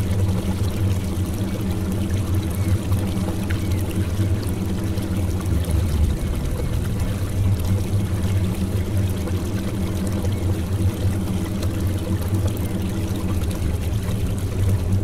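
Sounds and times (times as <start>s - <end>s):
water gushing from drain: 0.0s - 15.0s.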